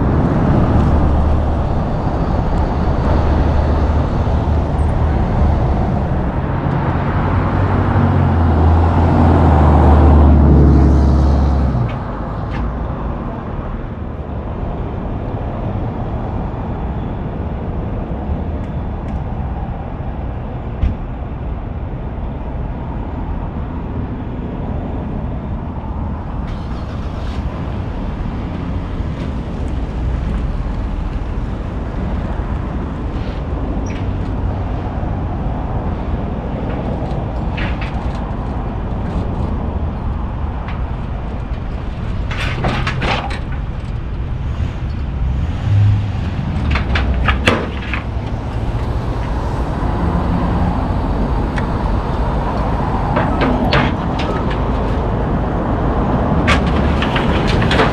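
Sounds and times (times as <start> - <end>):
low engine rumble: 0.0 - 57.9.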